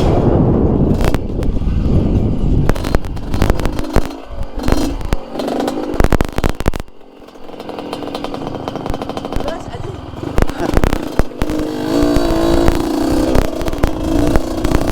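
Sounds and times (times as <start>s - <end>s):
engine knocks and clatter: 0.9s - 14.9s
two-stroke engine revving: 0.9s - 14.9s.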